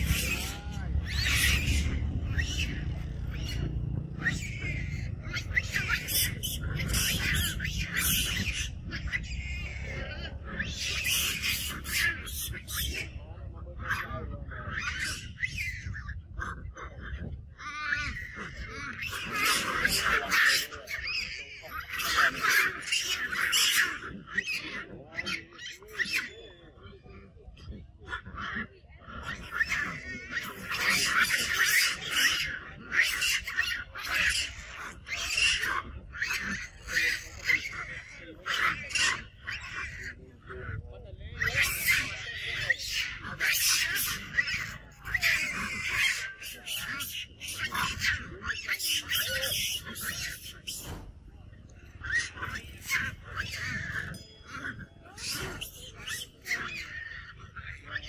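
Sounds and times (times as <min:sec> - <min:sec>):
macaques shrieking: 0:00.0 - 0:58.0
monkeys screaming: 0:00.0 - 0:58.0.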